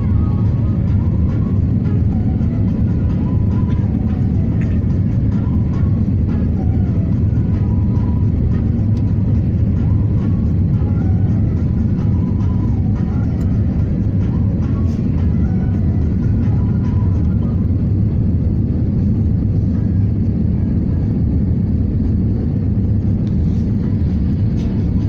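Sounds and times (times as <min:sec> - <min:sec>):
jet engines and rushing air: 0:00.0 - 0:25.0.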